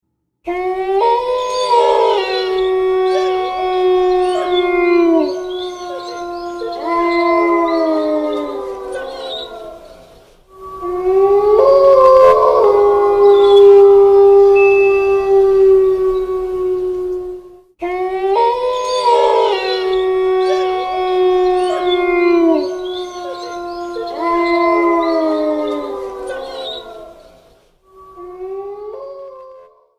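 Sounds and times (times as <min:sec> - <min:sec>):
wolves howling: 0:00.5 - 0:29.9.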